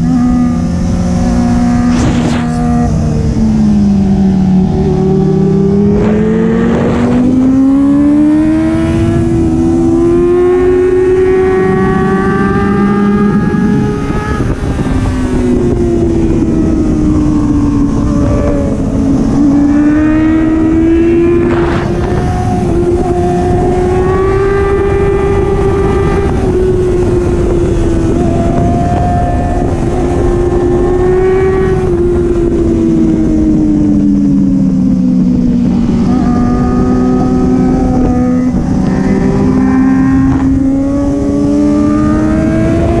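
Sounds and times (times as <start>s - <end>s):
motorcycle engine revving: 0.0s - 43.0s
wind rushing: 0.0s - 43.0s.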